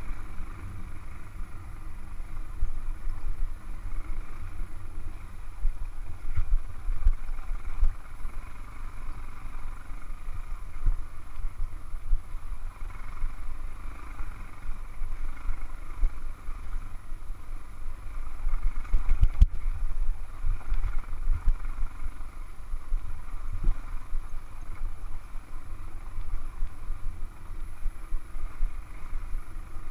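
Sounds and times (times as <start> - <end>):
motorcycle engine: 0.0 - 29.9
wind noise: 0.0 - 29.9.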